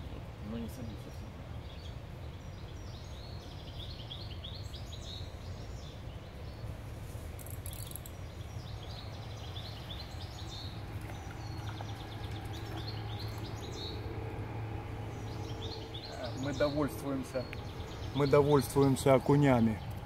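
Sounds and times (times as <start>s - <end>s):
low outdoor rumble: 0.0s - 20.0s
songbirds chirping: 0.0s - 20.0s.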